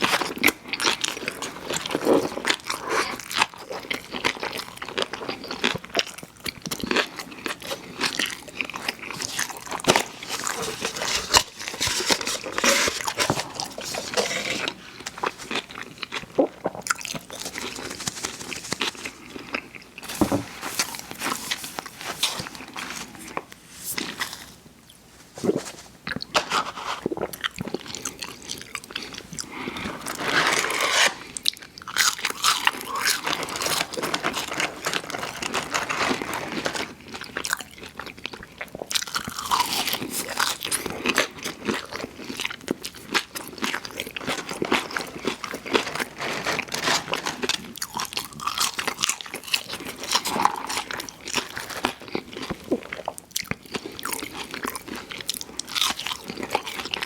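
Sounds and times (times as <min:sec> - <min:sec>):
crunchy biting and chewing: 0:00.0 - 0:24.6, 0:25.4 - 0:57.0.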